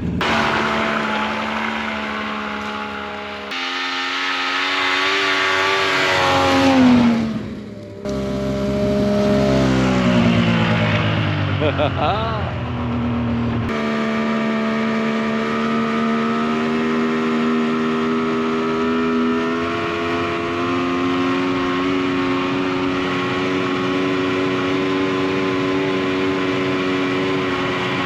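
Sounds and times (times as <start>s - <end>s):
snowmobile engine running: 0.0s - 28.0s.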